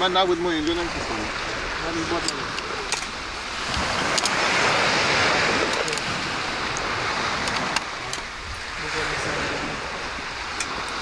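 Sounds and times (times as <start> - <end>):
ocean wave breaking: 0.0 - 11.0.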